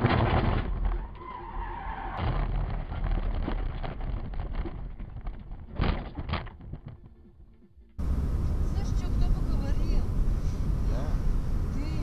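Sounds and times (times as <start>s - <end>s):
car rumbling over rough ground: 0.0s - 12.0s.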